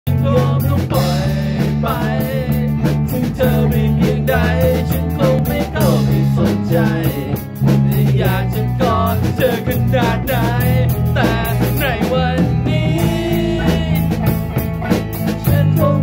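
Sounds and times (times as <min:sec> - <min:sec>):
drum kit beat: 0:00.1 - 0:16.0
electric guitar: 0:00.1 - 0:16.0
man singing: 0:00.1 - 0:16.0.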